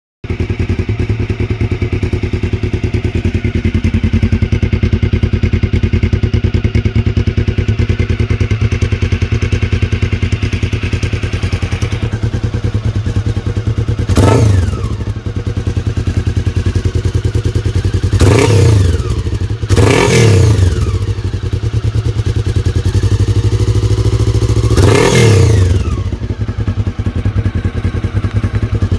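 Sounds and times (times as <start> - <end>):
motorcycle engine rumbling: 0.2 - 28.9.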